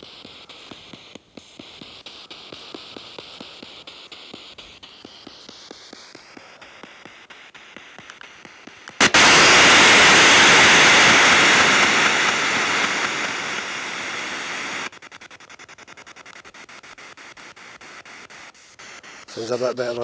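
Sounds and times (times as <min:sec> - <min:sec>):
loud radio static: 0:00.0 - 0:20.0
radio scanner sweep ticking: 0:00.0 - 0:20.0.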